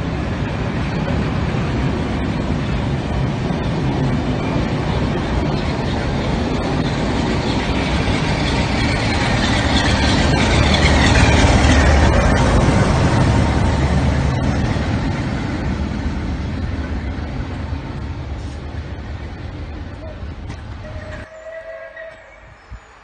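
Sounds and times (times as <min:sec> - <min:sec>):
diesel locomotive drone: 0:00.0 - 0:23.0
train coaches rumbling by: 0:00.0 - 0:23.0.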